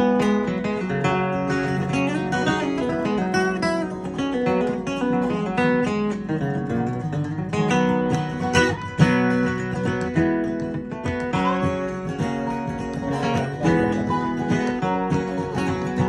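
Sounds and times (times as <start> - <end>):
acoustic guitar flatpicking: 0.0 - 16.0.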